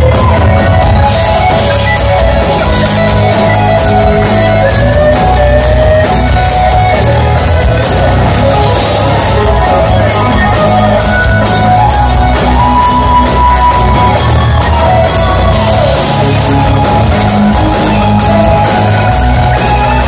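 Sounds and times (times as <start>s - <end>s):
bass: 0.0s - 20.0s
guitars: 0.0s - 20.0s.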